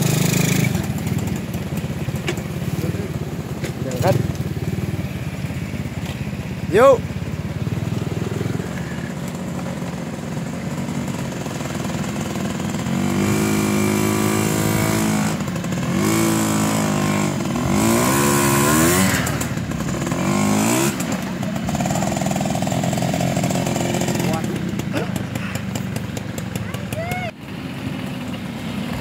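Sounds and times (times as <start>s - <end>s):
motorcycle revving hard: 0.0s - 29.0s.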